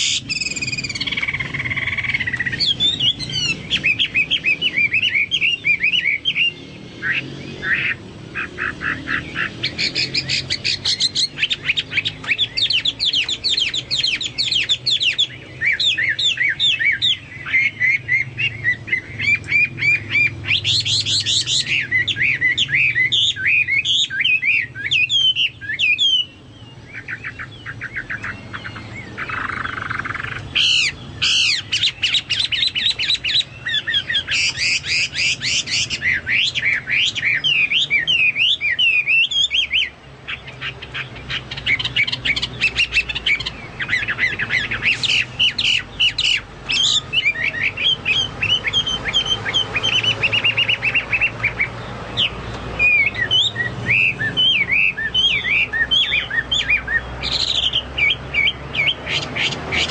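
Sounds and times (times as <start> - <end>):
bird singing trills and whistles: 0.0 - 59.9.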